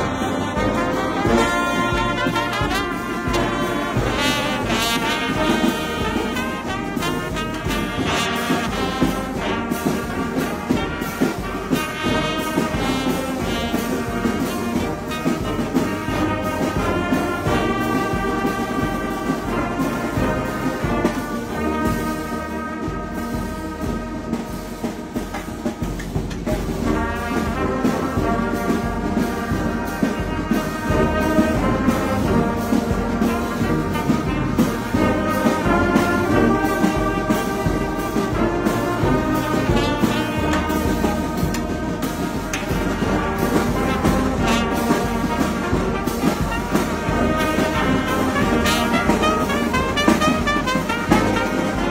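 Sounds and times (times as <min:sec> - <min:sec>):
trumpets playing melody: 0:00.0 - 0:25.8, 0:26.6 - 0:51.9
low brass: 0:00.0 - 0:51.9.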